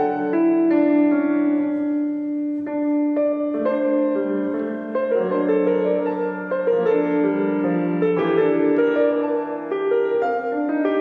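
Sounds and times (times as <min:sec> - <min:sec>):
piano accompaniment: 0:00.0 - 0:11.0.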